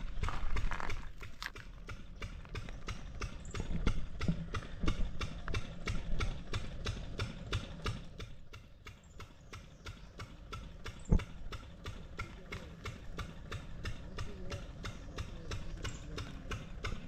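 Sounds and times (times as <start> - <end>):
steady rhythmic clicking: 1.1 - 17.0.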